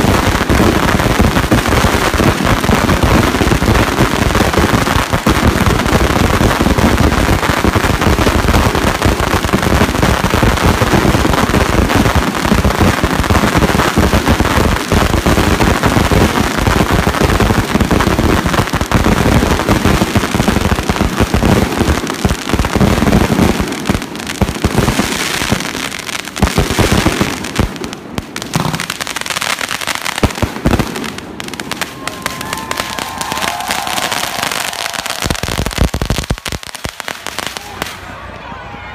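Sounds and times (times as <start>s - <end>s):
firecrackers banging: 0.0s - 38.1s.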